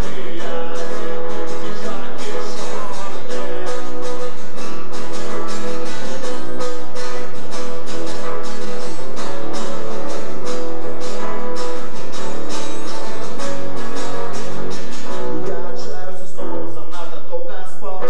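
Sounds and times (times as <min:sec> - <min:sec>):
guitar strumming chords: 0:00.0 - 0:18.0.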